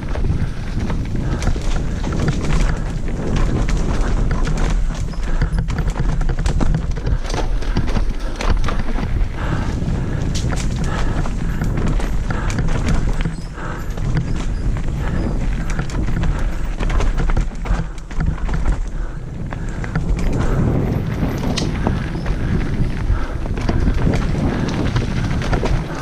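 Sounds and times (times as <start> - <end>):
bike clattering over roots: 0.0 - 26.0
bike tyres rumbling on dirt: 0.0 - 26.0.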